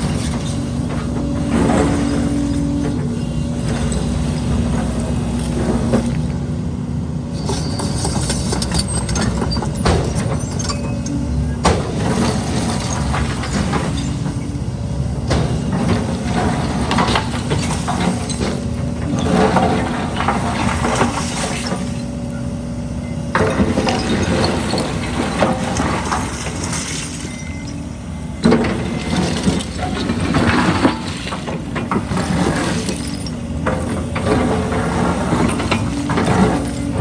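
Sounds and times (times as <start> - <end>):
concrete rubble clattering and scraping: 0.0 - 6.3, 7.4 - 14.6, 15.2 - 22.2, 23.4 - 27.8, 28.4 - 37.0
excavator engine running: 0.0 - 37.0.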